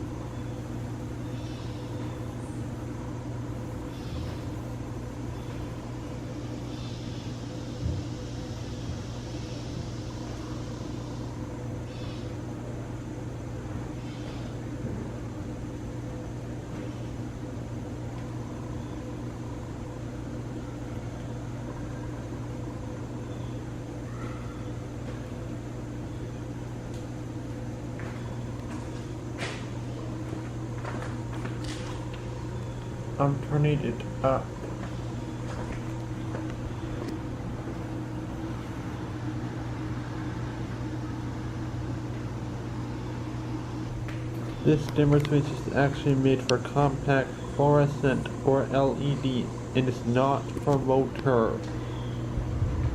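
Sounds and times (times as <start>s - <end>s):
ceiling fan air rush: 0.0s - 52.9s
low electrical hum: 0.0s - 52.9s.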